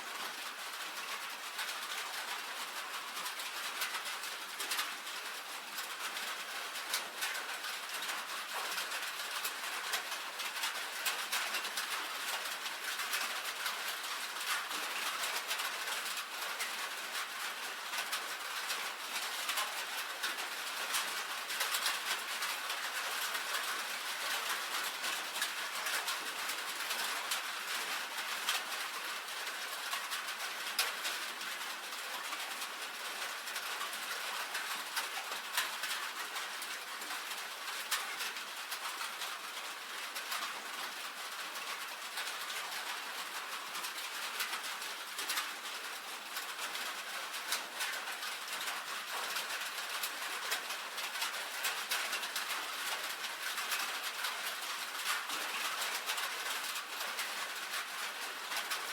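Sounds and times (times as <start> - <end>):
rain on a tin roof: 0.0 - 58.9.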